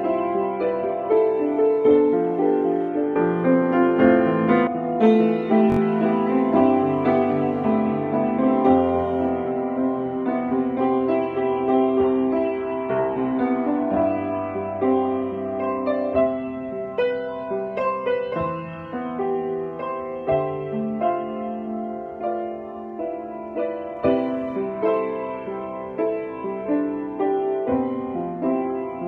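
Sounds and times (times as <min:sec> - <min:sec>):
grand piano melody: 0:00.0 - 0:29.0.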